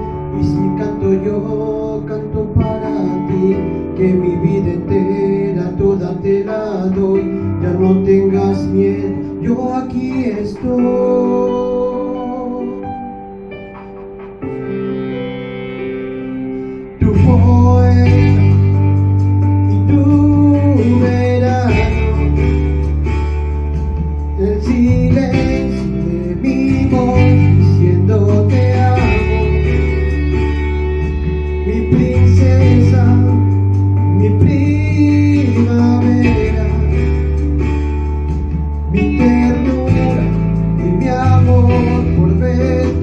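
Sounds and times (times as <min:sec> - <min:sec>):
person singing love song: 0:00.0 - 0:15.4, 0:16.5 - 0:43.0
guitar: 0:00.0 - 0:43.0
sustained bass notes: 0:00.0 - 0:43.0.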